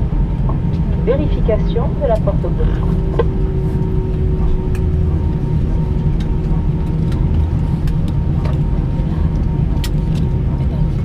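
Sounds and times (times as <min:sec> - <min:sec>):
aircraft air system rumble: 0:00.0 - 0:11.0.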